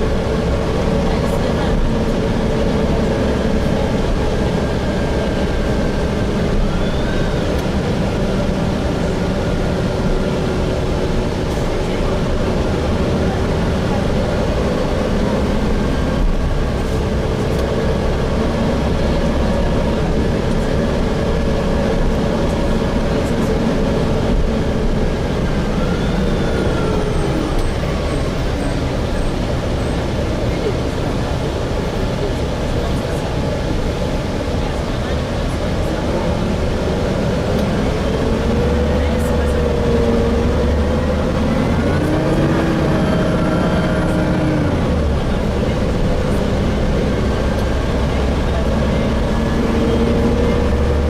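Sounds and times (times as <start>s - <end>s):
bus engine and road noise: 0.0s - 51.0s.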